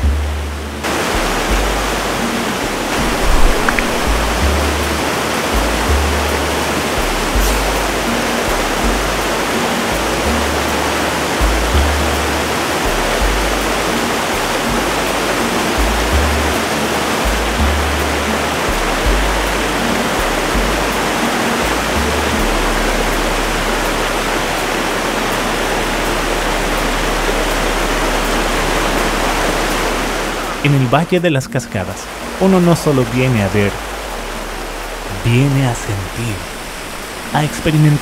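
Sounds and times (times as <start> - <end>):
low bass music: 0.0 - 38.0
waterfall rushing: 0.0 - 38.0.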